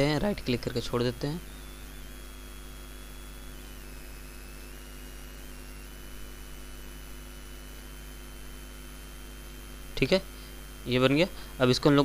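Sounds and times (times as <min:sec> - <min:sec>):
electrical mains hum: 0:00.0 - 0:12.0
faint high whine: 0:00.0 - 0:12.0.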